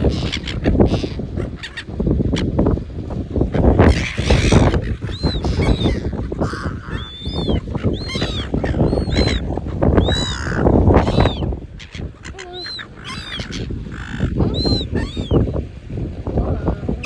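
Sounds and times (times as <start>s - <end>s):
seagulls squawking: 0.0s - 15.7s
steady low rumble: 0.0s - 17.0s.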